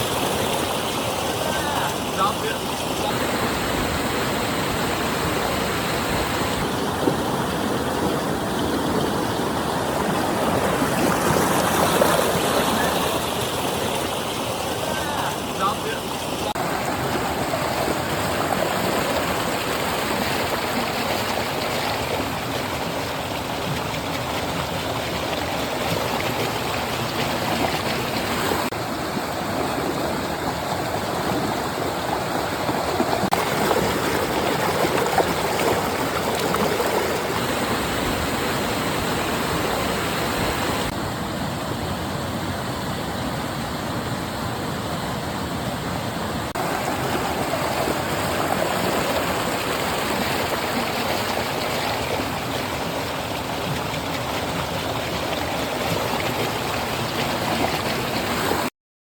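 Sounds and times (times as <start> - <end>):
stream water rushing and burbling: 0.0 - 58.7.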